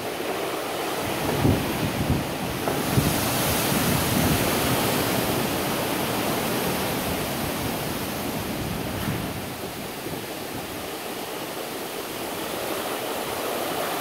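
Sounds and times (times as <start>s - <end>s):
wind and rain rushing: 0.0s - 14.0s
wind buffeting microphone: 0.1s - 14.0s.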